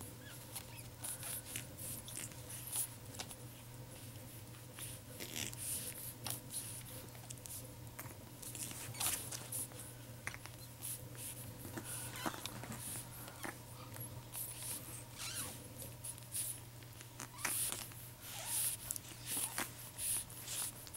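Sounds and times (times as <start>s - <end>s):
puppies scratching and rustling: 0.0s - 20.9s
steady low hum: 0.0s - 20.9s.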